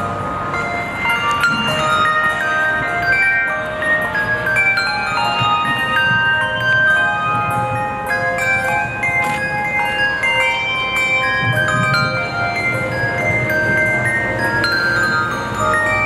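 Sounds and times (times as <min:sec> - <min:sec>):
handbell choir playing: 0:00.0 - 0:16.0.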